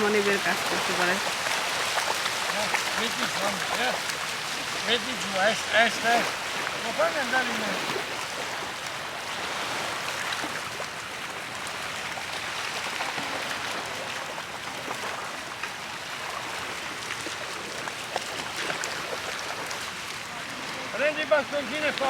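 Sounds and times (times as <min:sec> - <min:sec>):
faint splashes: 0:00.0 - 0:22.0
sea water washing at shore: 0:00.0 - 0:22.0.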